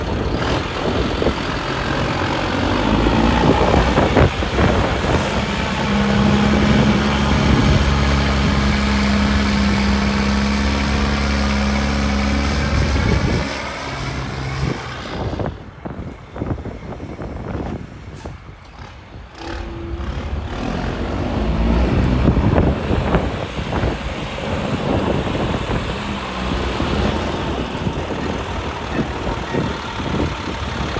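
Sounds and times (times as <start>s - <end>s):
truck engine running: 0.0s - 30.9s.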